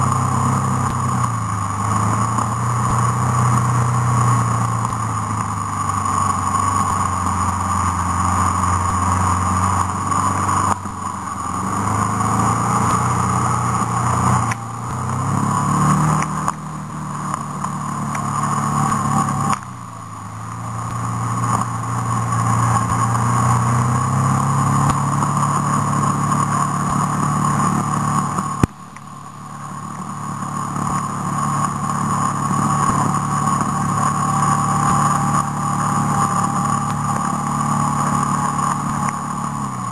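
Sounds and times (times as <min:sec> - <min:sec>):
vehicle engine revving and easing: 0:00.0 - 0:39.9.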